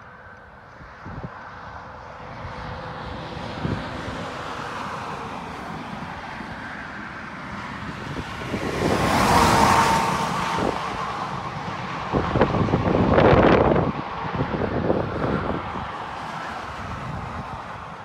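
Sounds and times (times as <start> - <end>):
road traffic: 0.0 - 18.0
vehicle passing: 0.0 - 18.0
wind noise on microphone: 0.6 - 18.0.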